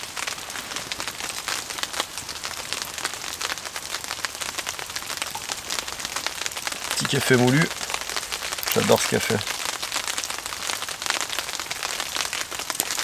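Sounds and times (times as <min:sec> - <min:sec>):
rain pattering on a tarp: 0:00.0 - 0:13.0.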